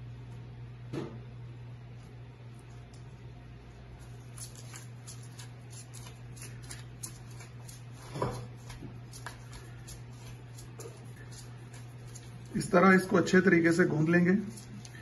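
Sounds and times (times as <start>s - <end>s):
steady low hum: 0.0s - 15.0s
plastic gloves crinkling kneading dough: 1.9s - 15.0s.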